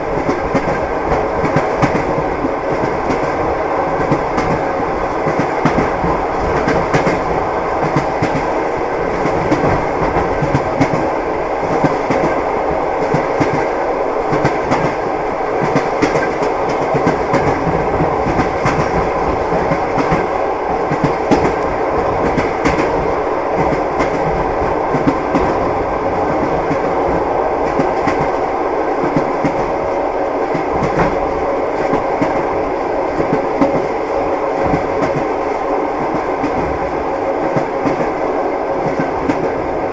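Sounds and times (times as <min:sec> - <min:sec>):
train carriage rumble: 0:00.0 - 0:39.9
train wheels clicking over rails: 0:00.1 - 0:28.4, 0:29.0 - 0:39.8.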